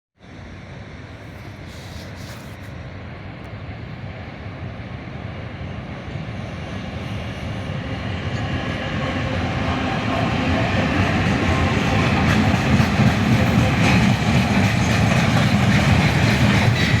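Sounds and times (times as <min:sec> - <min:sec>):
diesel locomotive engine drone: 0:00.2 - 0:17.0.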